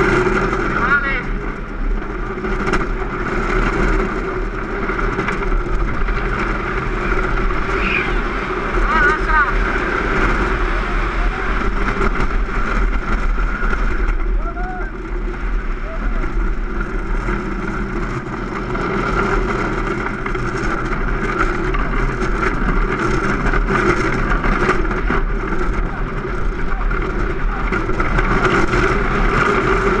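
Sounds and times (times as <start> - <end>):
wheels rushing on asphalt: 0.0 - 30.0
wind on microphone: 0.0 - 30.0.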